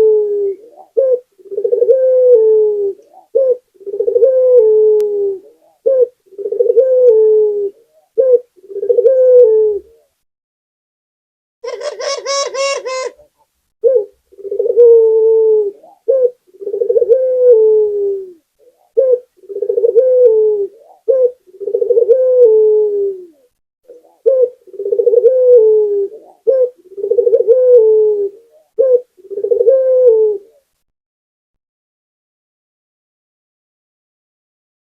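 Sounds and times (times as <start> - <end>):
dove cooing: 0.0 - 10.2, 11.6 - 30.8.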